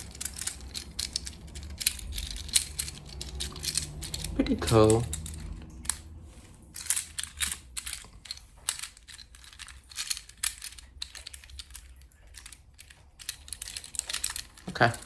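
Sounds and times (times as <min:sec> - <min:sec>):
plastic fidget toys clicking: 0:00.0 - 0:06.0, 0:06.8 - 0:15.0
faint rustling: 0:00.0 - 0:15.0.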